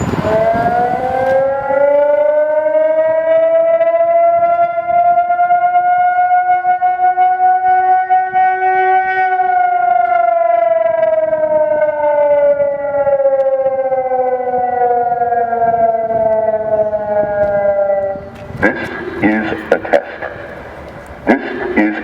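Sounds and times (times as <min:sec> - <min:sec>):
warning siren tone: 0:00.0 - 0:22.0.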